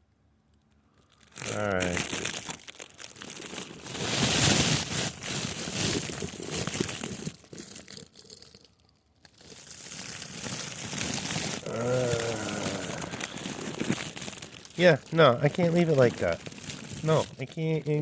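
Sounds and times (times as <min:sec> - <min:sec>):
crinkling rustling handling noise: 0:00.6 - 0:18.0.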